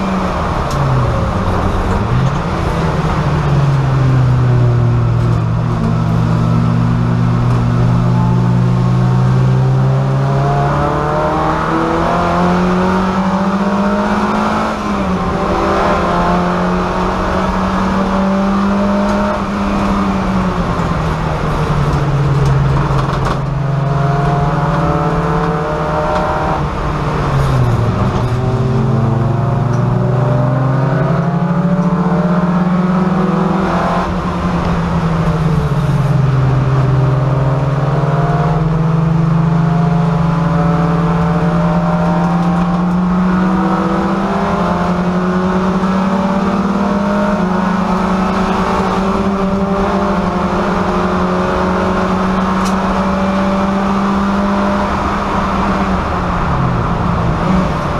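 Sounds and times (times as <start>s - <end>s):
race car engine running hard: 0.0s - 57.9s.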